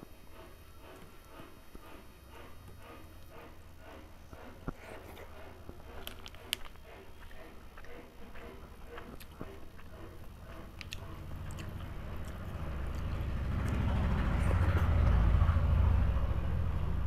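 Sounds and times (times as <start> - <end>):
low engine rumble: 0.0 - 17.0
fingers mixing rice on plate: 0.4 - 15.0.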